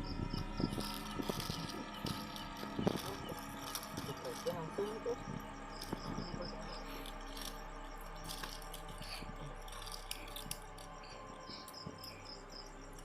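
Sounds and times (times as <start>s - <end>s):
crickets chirping: 0.0s - 13.0s
small objects rattling when handled: 0.0s - 13.0s.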